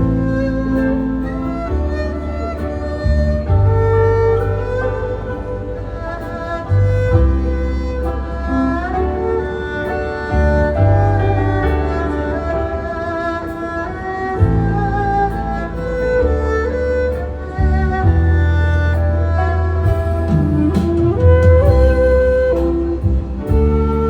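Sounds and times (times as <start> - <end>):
bass notes: 0.0 - 24.0
bowed erhu melody: 0.0 - 24.0
piano chords: 0.0 - 24.0.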